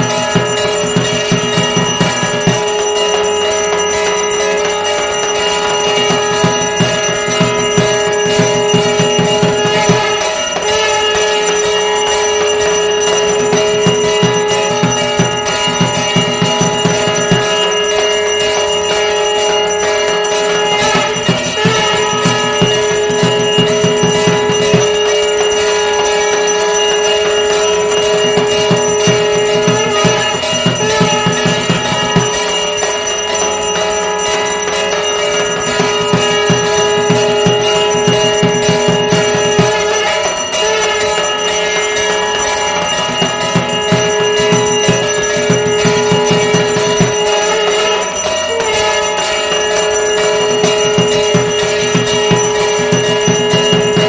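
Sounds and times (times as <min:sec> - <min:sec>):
hand bell ringing rapidly: 0:00.0 - 0:54.0.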